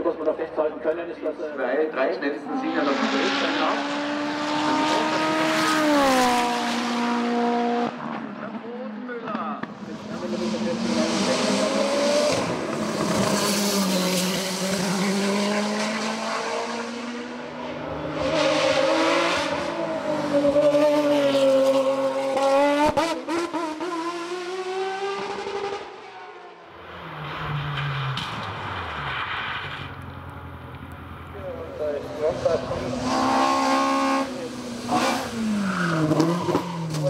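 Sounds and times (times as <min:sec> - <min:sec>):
racing car engine at full throttle: 0:02.2 - 0:37.0.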